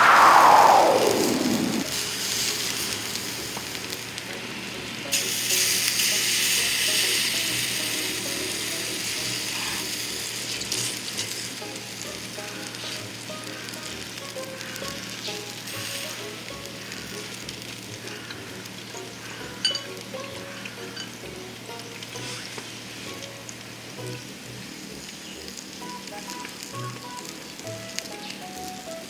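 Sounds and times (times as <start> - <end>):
meat sizzling on a grill: 1.8 - 29.0.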